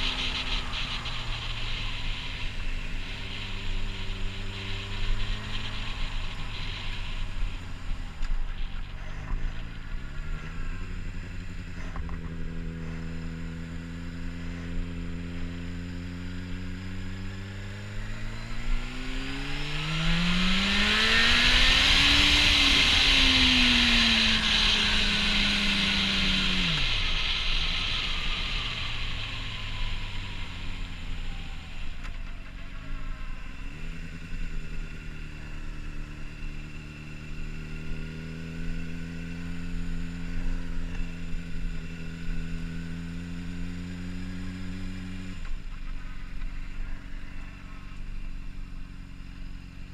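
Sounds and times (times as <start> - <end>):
motorcycle engine idling and revving: 0.0 - 49.9.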